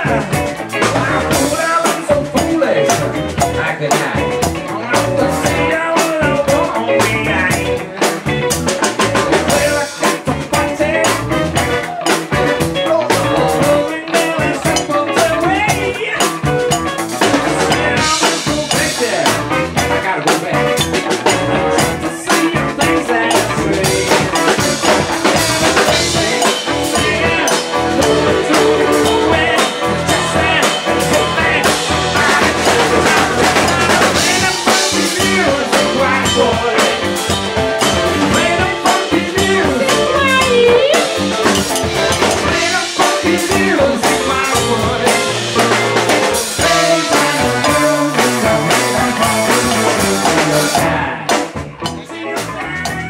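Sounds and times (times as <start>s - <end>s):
drum kit with rimshots: 0.0s - 53.0s
electric guitars: 0.0s - 53.0s.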